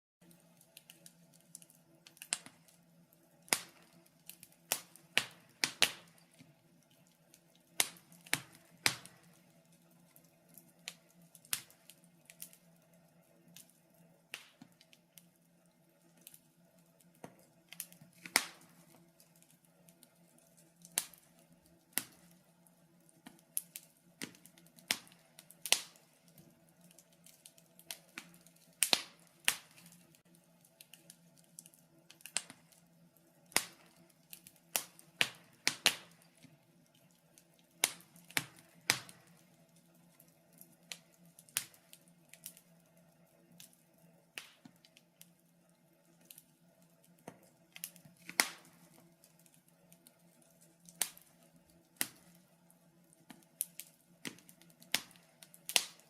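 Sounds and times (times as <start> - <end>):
wood fire crackling and popping: 0.2 - 56.0.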